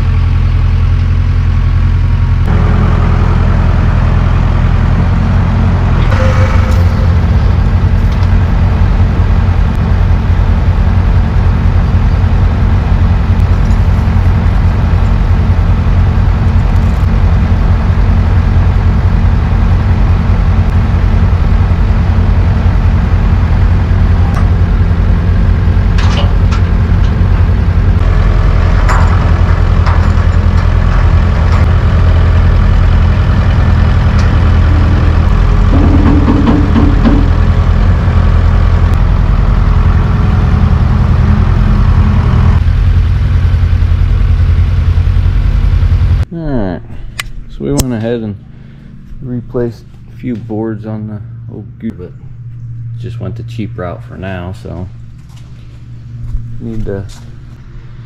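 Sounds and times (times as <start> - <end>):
large engine idling: 0.0 - 58.0.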